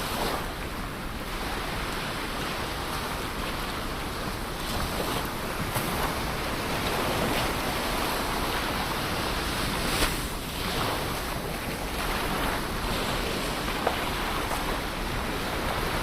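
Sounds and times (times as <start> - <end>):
ocean waves washing onto shore: 0.0 - 16.0.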